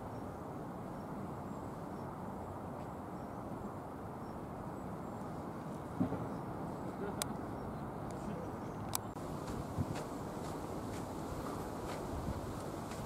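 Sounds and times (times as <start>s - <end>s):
distant city traffic hum: 0.0s - 13.0s.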